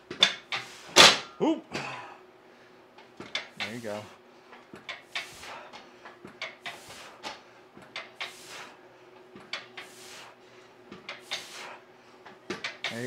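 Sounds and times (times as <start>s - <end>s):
exercise machine hissing: 0.0s - 1.2s, 2.5s - 13.0s.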